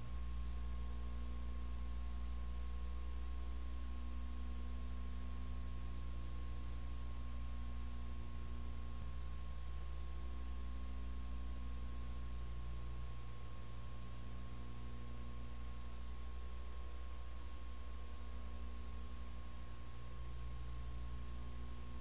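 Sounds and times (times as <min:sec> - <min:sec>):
electrical hum with high tone: 0:00.0 - 0:22.0.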